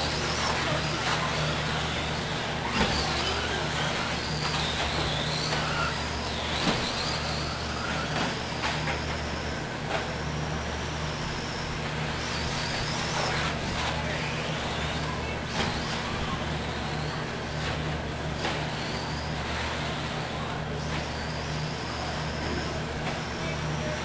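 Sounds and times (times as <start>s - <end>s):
electric motor whining: 0.0s - 24.0s
steady low hum: 0.0s - 24.0s.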